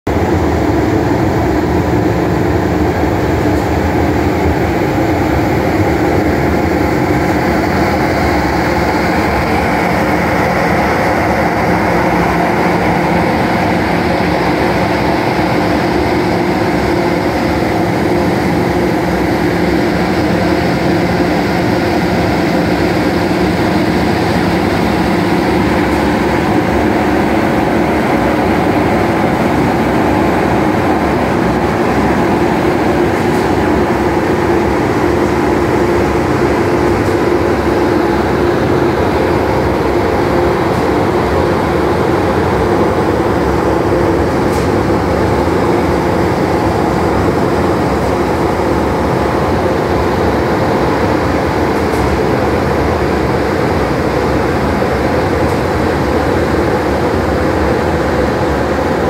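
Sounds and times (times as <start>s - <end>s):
large blower droning: 0.0s - 59.0s.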